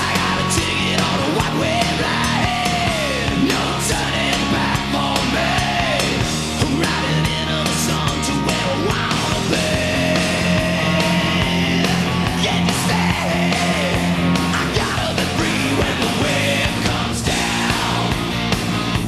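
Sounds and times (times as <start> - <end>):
electric guitar lead bending notes: 0.0 - 19.0
hard rock song: 0.0 - 19.0.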